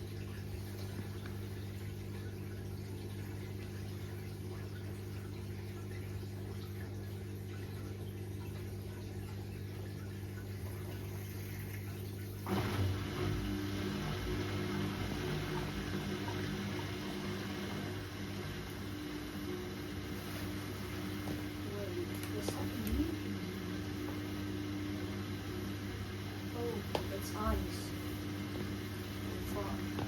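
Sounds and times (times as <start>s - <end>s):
drain pump humming: 0.0s - 30.0s.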